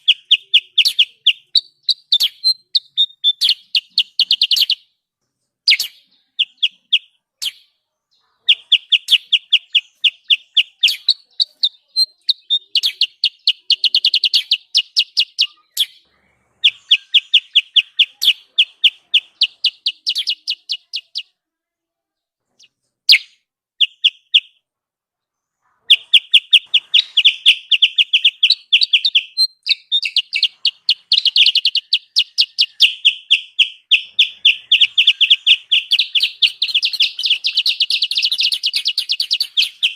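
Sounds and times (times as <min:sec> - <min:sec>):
bird high chirps: 0:00.0 - 0:05.0, 0:05.6 - 0:21.5, 0:22.1 - 0:24.6, 0:25.3 - 0:39.9.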